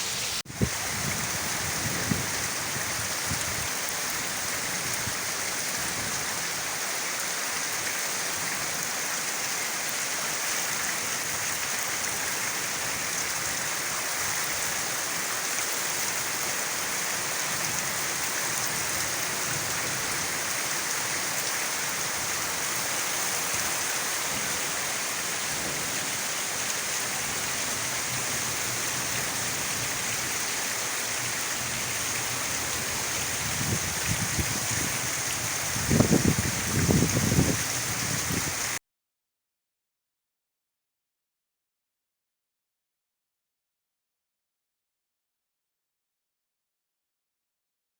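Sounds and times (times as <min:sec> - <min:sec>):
pouring rain: 0:00.0 - 0:38.8.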